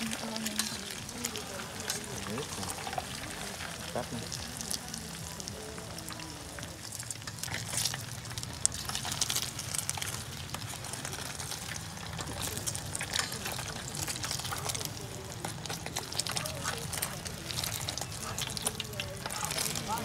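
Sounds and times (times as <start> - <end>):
food frying in oil: 0.0 - 20.0
utensil turning food in pot: 0.0 - 20.0.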